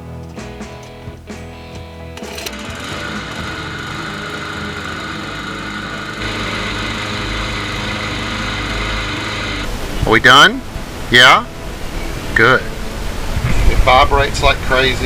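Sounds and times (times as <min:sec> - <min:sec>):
lawn mower engine running: 0:00.0 - 0:13.4.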